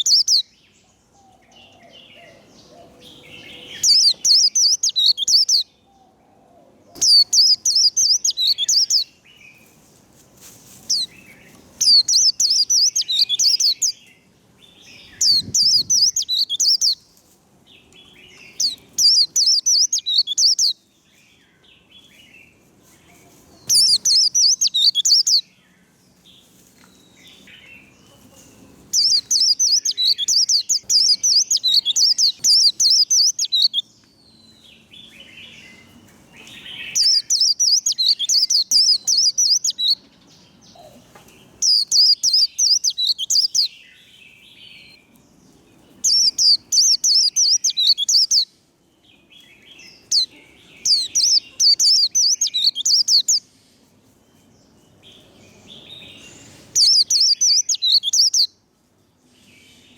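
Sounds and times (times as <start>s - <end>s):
soft bird chirps: 0.0s - 6.1s, 6.9s - 17.2s, 17.8s - 58.6s
bird twittering song: 0.0s - 6.3s, 6.9s - 9.7s, 10.8s - 22.5s, 23.1s - 58.6s.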